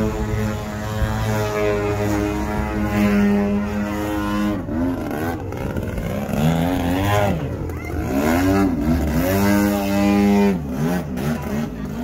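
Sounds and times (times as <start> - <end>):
model airplane engine in flight: 0.0 - 12.0.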